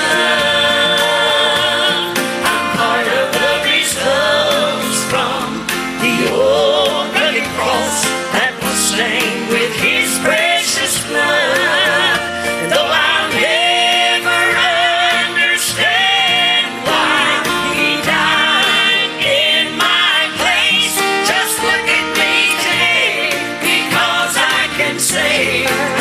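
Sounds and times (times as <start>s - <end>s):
gospel singing: 0.0s - 26.0s
instrumental accompaniment: 0.0s - 26.0s.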